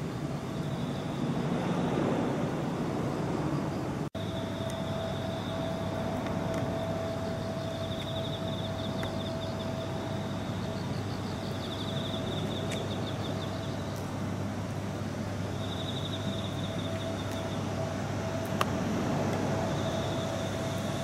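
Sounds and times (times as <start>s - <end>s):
constant steady hum: 0.0s - 21.0s.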